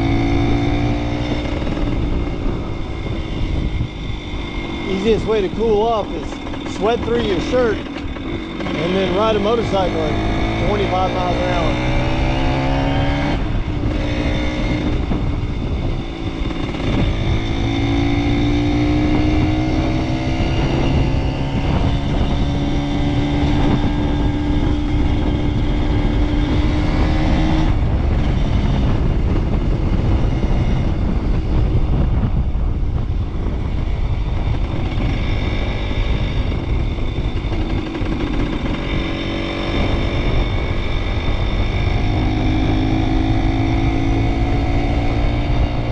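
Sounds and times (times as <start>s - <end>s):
motorcycle engine accelerating: 0.0s - 45.9s
wind rumble on microphone: 0.0s - 45.9s.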